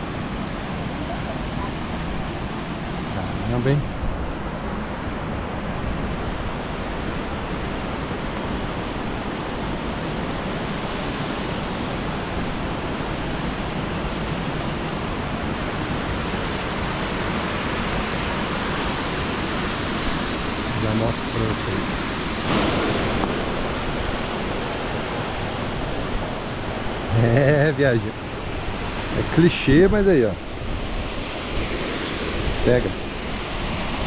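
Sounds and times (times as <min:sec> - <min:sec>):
waterfall rushing water: 0:00.0 - 0:34.0.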